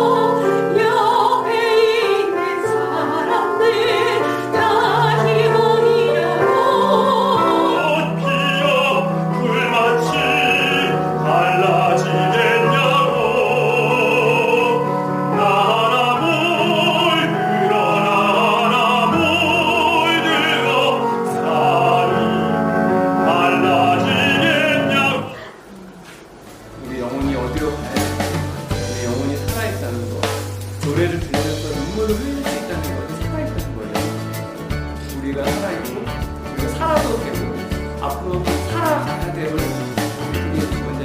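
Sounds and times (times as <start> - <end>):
operatic singing: 0.0 - 34.4
instrumental accompaniment: 0.0 - 41.0.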